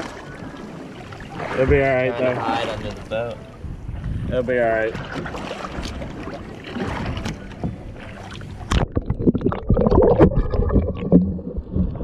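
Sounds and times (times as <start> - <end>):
water sloshing against boat hull: 0.0 - 12.0
wind on microphone: 0.0 - 12.0.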